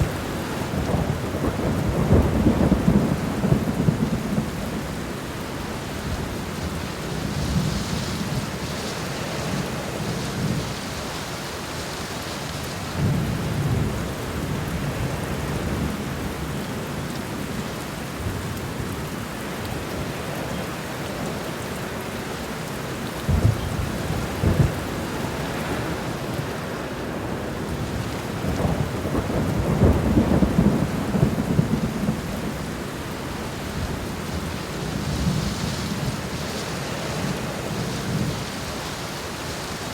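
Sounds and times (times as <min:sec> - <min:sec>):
low thunder rumbles: 0:00.0 - 0:10.8, 0:13.0 - 0:19.2, 0:23.1 - 0:38.6
heavy rain: 0:00.0 - 0:39.9.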